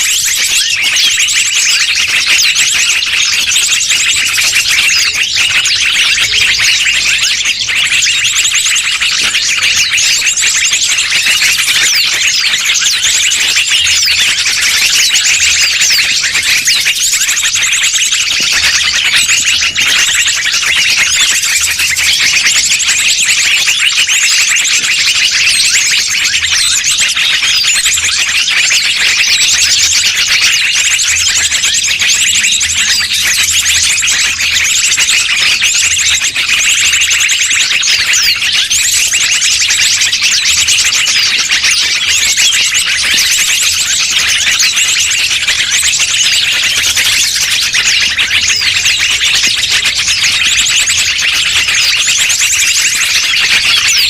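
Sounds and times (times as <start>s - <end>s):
shrill bird chirps and trills: 0.0s - 54.0s.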